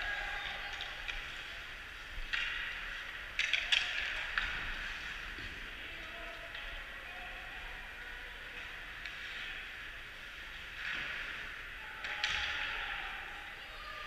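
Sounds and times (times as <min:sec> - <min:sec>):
hockey sticks and puck clacking: 0:00.0 - 0:07.0, 0:08.4 - 0:13.4.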